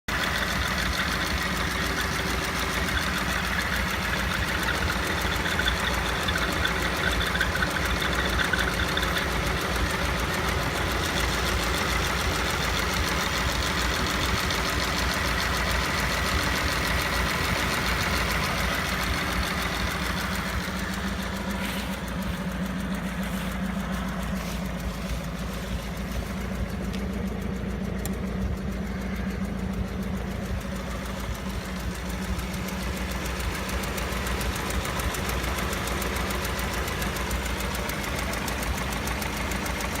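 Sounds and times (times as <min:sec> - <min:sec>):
engine idling: 0:00.0 - 0:40.0
drive belt squeaking: 0:00.4 - 0:40.0.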